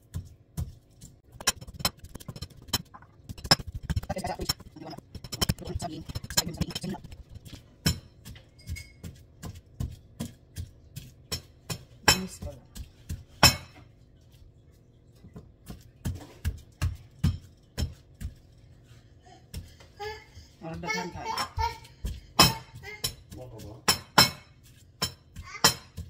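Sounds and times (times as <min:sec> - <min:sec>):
pestle pounding in mortar: 0:00.0 - 0:13.7, 0:15.6 - 0:18.5, 0:20.8 - 0:26.0.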